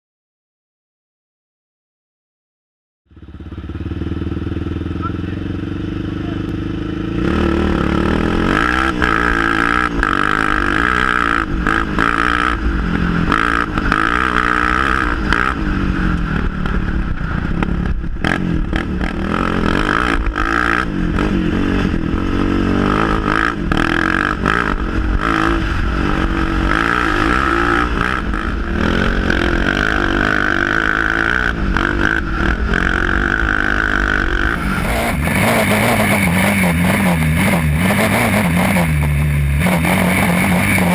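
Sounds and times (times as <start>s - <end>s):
quad engine revving: 3.3s - 40.9s.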